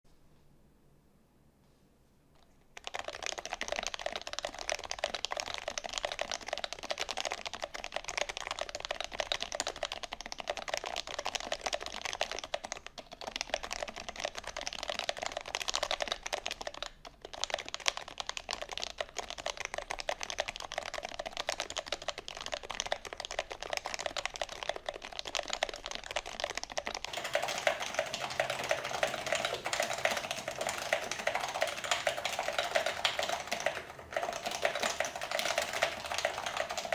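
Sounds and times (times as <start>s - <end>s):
fast typing on keyboard: 2.7s - 36.9s.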